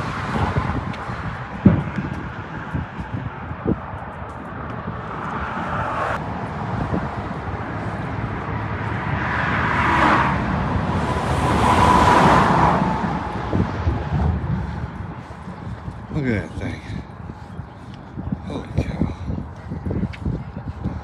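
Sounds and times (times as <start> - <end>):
faint tyre whine: 0.0 - 18.2
highway traffic passing: 0.0 - 21.0.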